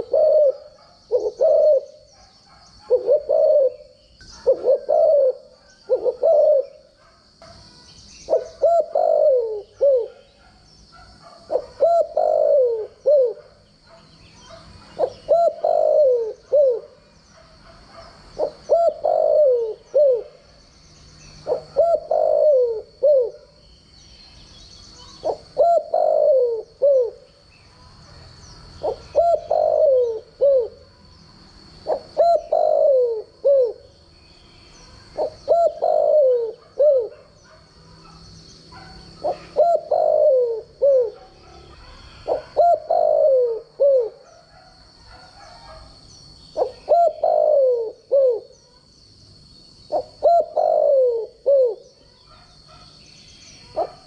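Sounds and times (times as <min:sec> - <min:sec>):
dove cooing: 0:00.0 - 0:07.2, 0:08.2 - 0:20.5, 0:21.4 - 0:23.6, 0:25.0 - 0:27.4, 0:28.7 - 0:30.9, 0:31.8 - 0:34.0, 0:34.8 - 0:45.9, 0:46.5 - 0:48.9, 0:49.9 - 0:53.0, 0:53.6 - 0:54.0.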